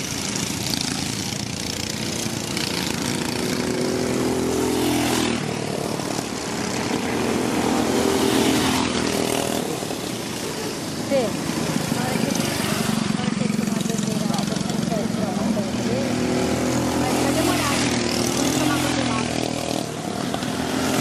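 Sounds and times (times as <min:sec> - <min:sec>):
kart engines accelerating: 0:00.0 - 0:21.0.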